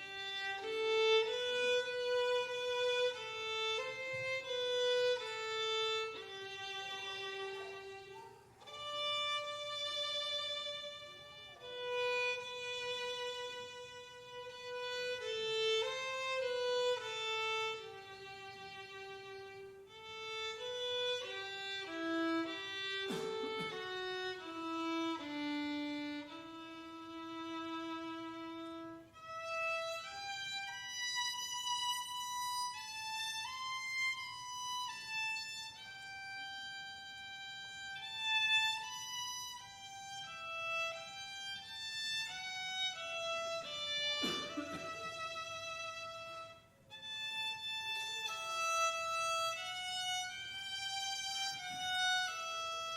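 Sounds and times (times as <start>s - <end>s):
slow violin melody: 0.0s - 52.9s.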